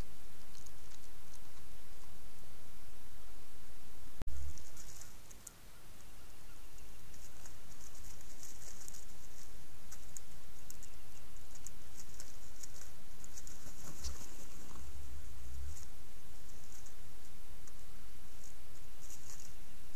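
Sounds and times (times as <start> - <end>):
steady hiss: 0.0 - 19.9
turkey spit and drumming hum: 0.0 - 19.9.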